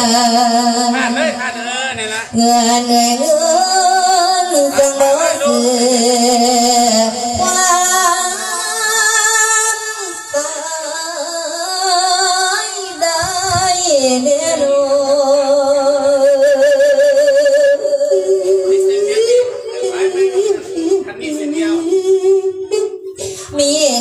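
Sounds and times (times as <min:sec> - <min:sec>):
person chanting melodically: 0:00.0 - 0:24.0.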